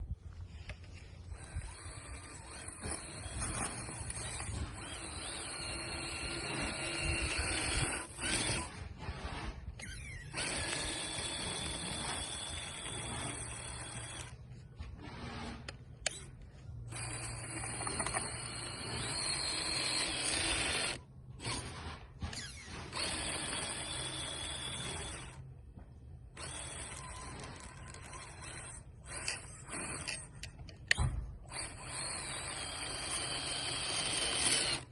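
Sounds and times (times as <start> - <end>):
rc truck electric motor: 0.0 - 25.5, 26.2 - 34.9.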